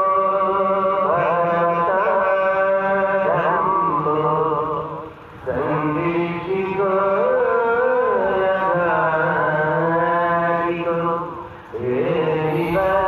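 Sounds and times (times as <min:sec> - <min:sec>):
person chanting melodically: 0:00.0 - 0:13.0.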